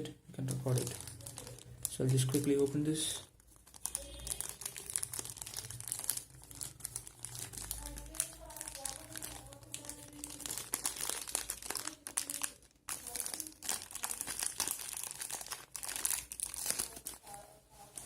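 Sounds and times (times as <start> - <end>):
packaging crinkling: 0.4 - 18.0.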